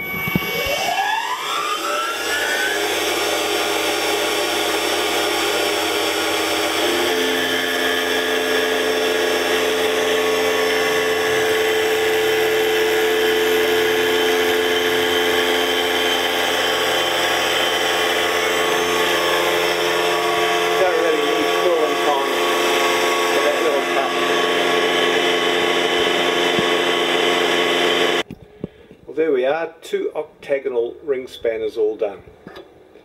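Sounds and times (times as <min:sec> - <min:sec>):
mill spindle whine: 0:00.0 - 0:28.3.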